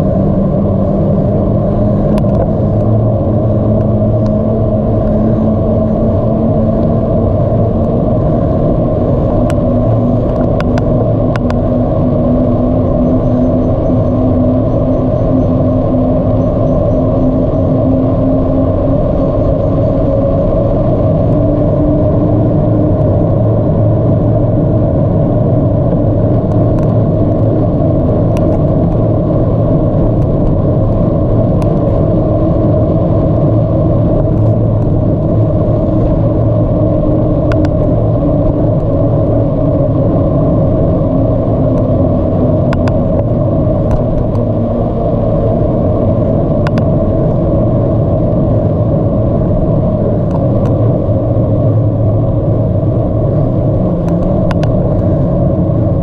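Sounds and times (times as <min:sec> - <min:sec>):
wind rumble: 0:00.0 - 0:56.0.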